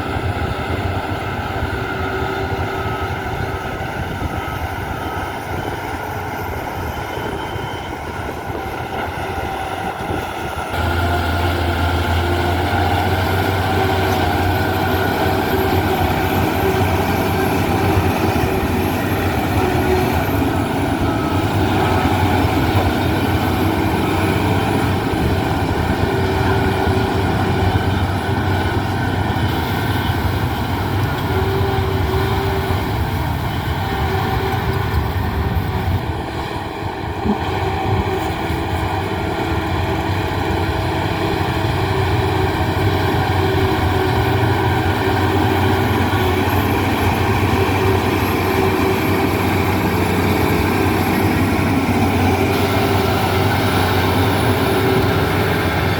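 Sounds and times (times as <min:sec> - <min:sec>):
diesel earthmoving machine engine: 0:00.0 - 0:55.9.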